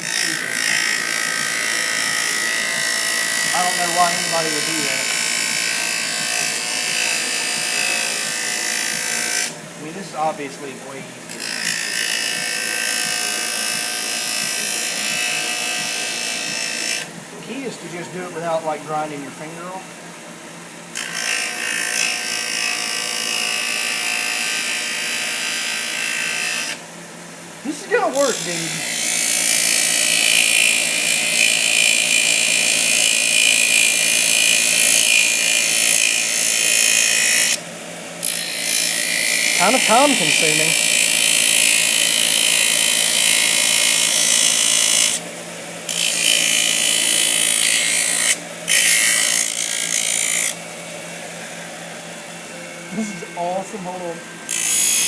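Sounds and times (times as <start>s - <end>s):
electric grinding tool on plastic: 0.0s - 10.6s, 11.2s - 17.6s, 20.9s - 26.9s, 27.7s - 55.0s.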